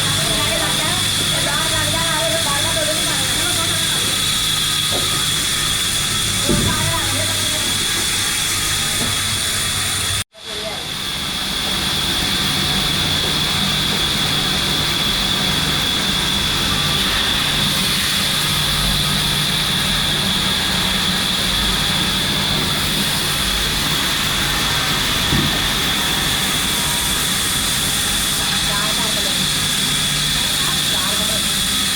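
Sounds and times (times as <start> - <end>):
machine rushing hum with whine: 0.0 - 31.9.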